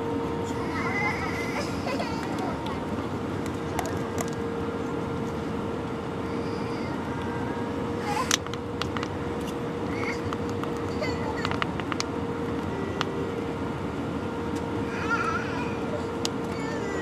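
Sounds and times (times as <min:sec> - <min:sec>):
aircraft engines and airflow: 0:00.0 - 0:17.0
steady hum: 0:00.0 - 0:17.0.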